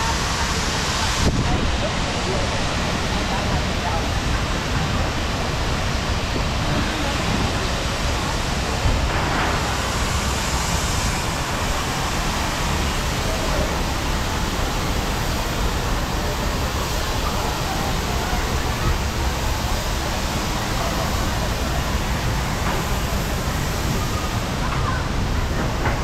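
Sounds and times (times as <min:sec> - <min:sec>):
wind and rain on microphone: 0:00.0 - 0:26.0.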